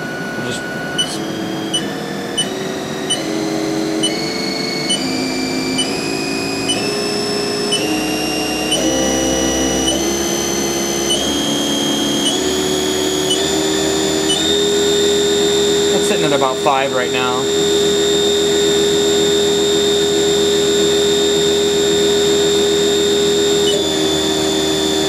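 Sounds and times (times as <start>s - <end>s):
spindle whine rising in pitch: 0.0s - 25.0s.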